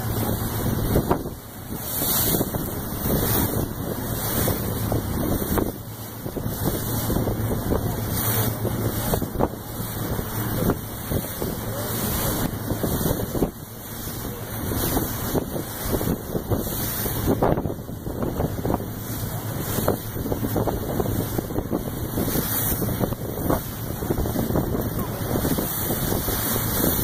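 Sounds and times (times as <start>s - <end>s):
boat engine drone: 0.0s - 27.0s
wind buffeting microphone: 0.0s - 27.0s.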